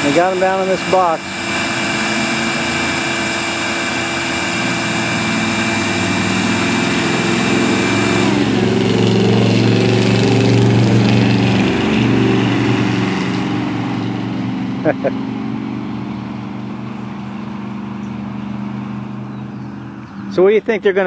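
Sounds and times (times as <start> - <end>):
deeper engine hum: 0.0 - 21.0
high whine sliding down: 0.0 - 21.0
small engine running: 0.0 - 21.0.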